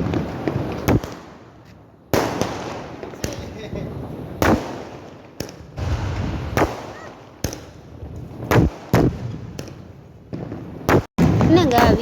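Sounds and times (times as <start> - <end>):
firecrackers banging with echo: 0.0 - 12.0.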